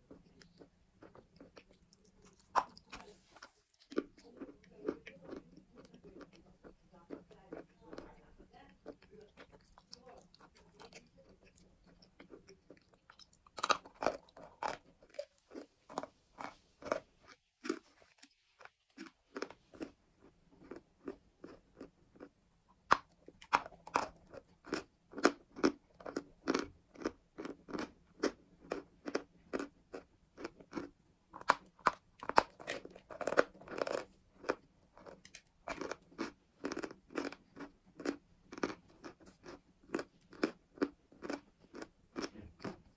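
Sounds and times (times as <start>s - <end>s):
person chewing crunchy chalk: 0.0s - 8.1s, 8.8s - 42.9s.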